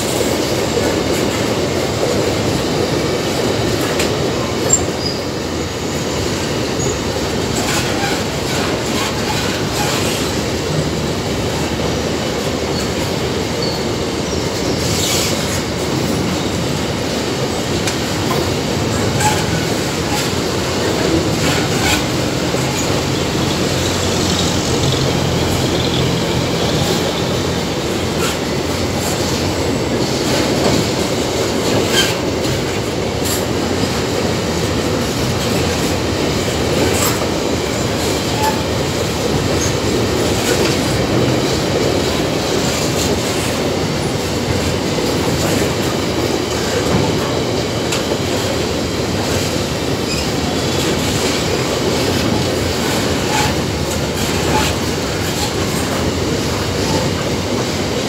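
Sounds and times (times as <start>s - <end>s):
train wagons rumbling on rails: 0.0s - 58.0s.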